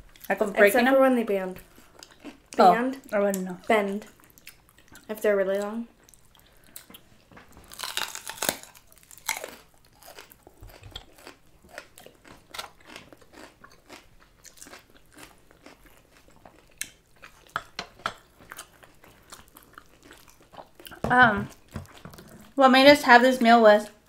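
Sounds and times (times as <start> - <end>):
crunchy food chewing: 1.6 - 5.1, 6.0 - 22.6.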